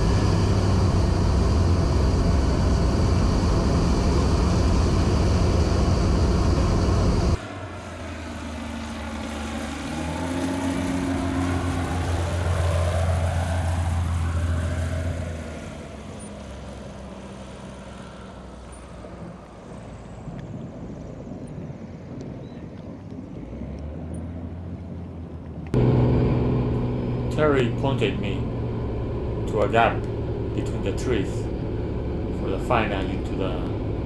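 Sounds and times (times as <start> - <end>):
airplane engine droning: 0.0 - 34.0
plane flying past low: 0.0 - 34.0.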